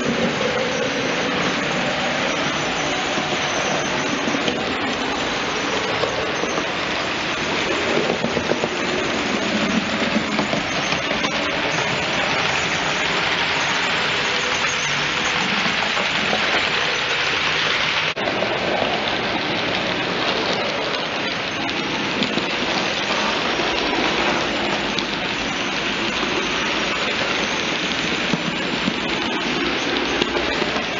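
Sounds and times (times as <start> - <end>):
model train wheels rattling on rails: 0.0 - 30.9.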